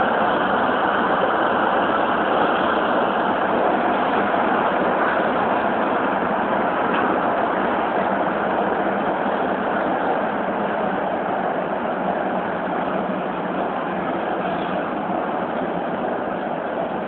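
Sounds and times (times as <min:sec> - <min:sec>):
subway train running: 0:00.0 - 0:17.0.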